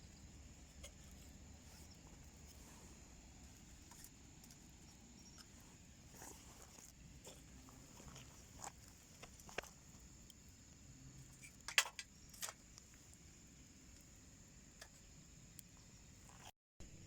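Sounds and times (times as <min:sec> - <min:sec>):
firewood crackling and popping: 0:00.2 - 0:16.5.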